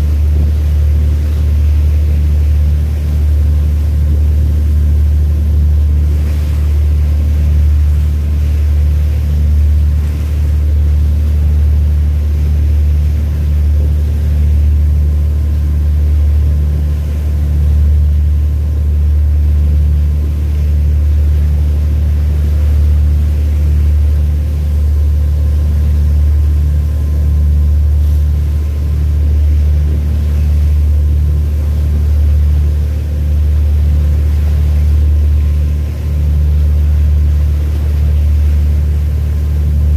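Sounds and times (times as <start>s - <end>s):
ship engine droning: 0.0s - 39.9s.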